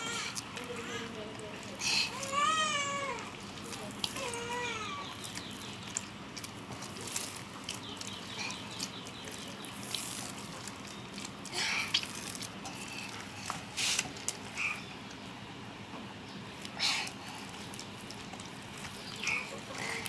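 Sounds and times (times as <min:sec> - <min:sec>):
hands peeling fibrous fruit skin: 0:00.0 - 0:15.3, 0:16.4 - 0:20.0.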